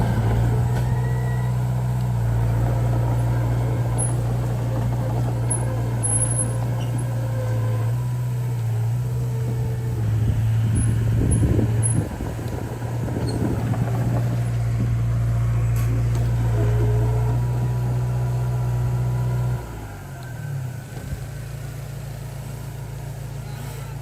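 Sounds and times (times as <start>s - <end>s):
heavy machinery diesel engine running: 0.0s - 24.0s.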